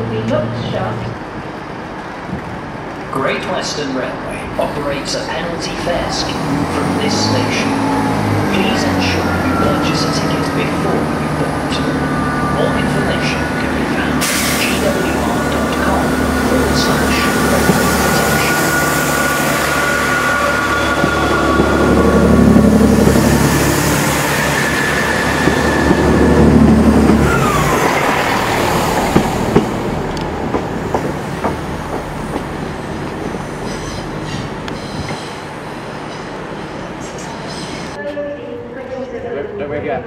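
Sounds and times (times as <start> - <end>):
diesel train engines running: 0.0 - 39.6.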